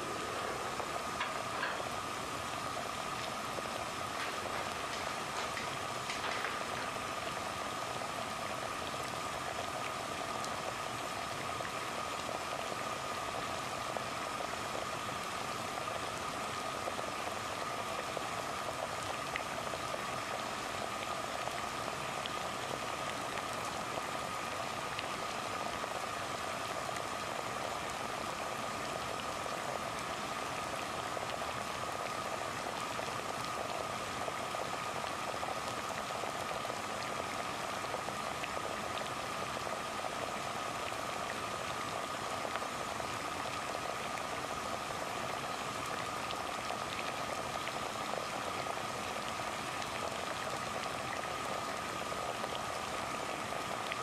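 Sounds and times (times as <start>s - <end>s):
water boiling: 0.0s - 54.0s.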